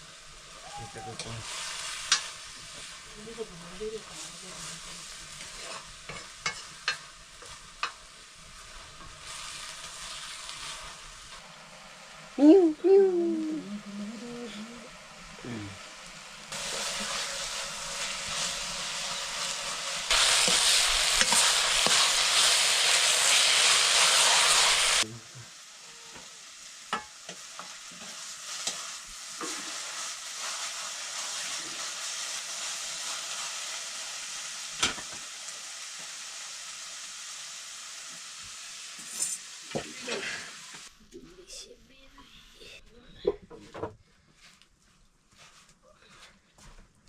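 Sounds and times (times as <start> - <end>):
food sizzling in a pan: 0.0 - 42.8.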